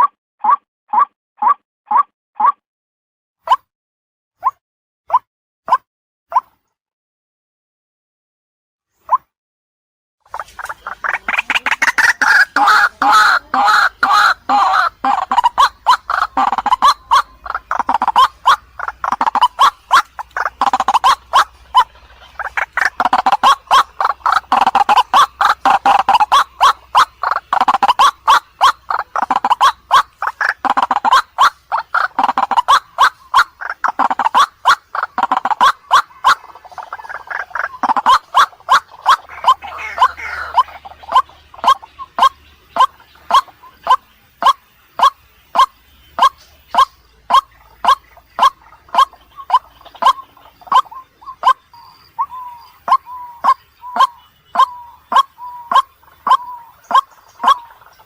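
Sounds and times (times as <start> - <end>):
waterhen calling harsh notes: 10.3 - 58.0.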